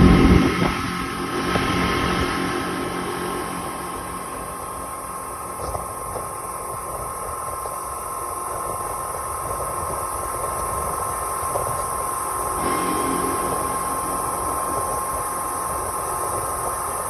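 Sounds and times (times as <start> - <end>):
rush of wind and water: 0.0 - 17.0
speedboat engine running: 0.0 - 17.0.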